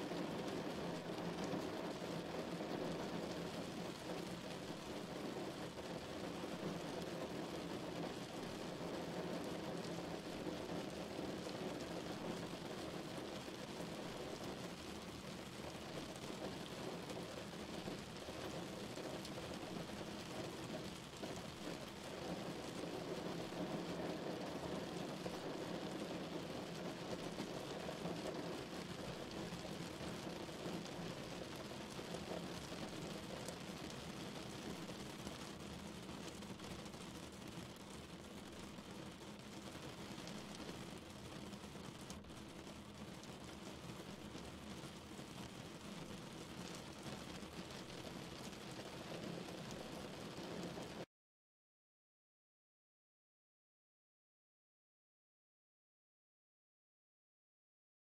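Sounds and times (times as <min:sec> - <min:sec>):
steady rain falling: 0:00.0 - 0:51.1.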